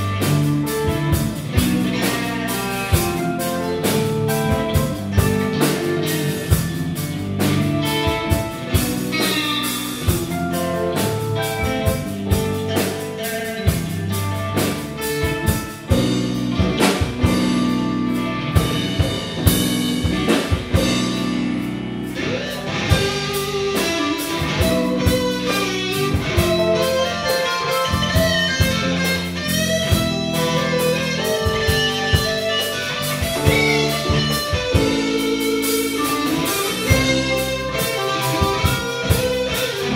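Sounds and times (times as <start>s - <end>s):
bass guitar: 0.0s - 39.9s
drum kit beat: 0.0s - 39.9s
electric guitar: 0.0s - 39.9s
keyboard: 0.0s - 39.9s.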